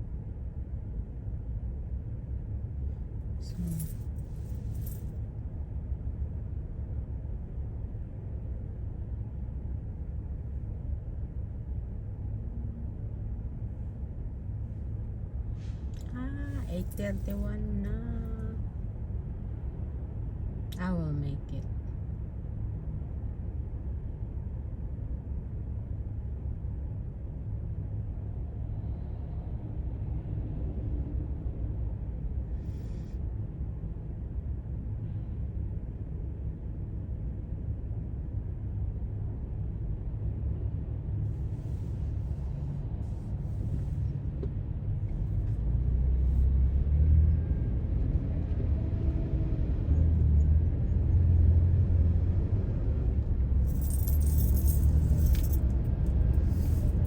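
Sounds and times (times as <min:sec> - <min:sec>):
car interior road and engine noise: 0:00.0 - 0:57.0.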